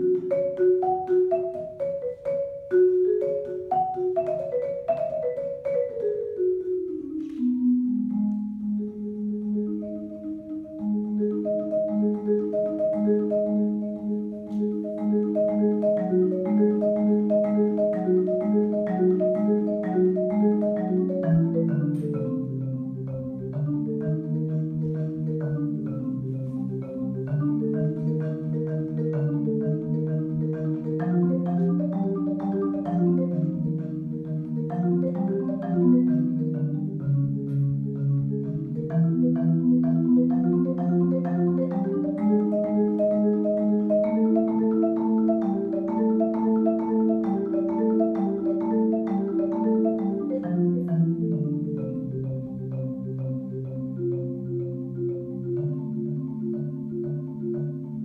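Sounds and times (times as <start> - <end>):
marimba chords: 0.0 - 58.0.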